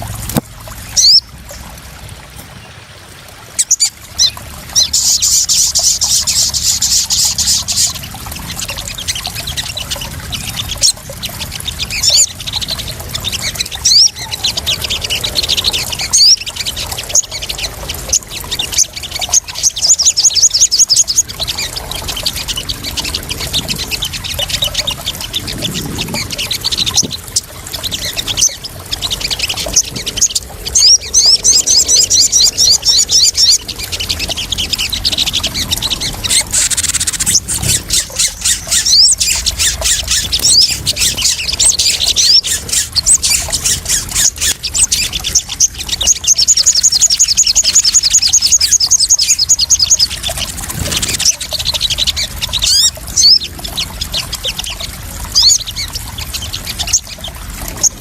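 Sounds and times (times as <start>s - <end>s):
trickling splashing water: 0.0s - 58.0s
bird trilling: 1.0s - 1.3s, 3.6s - 58.0s.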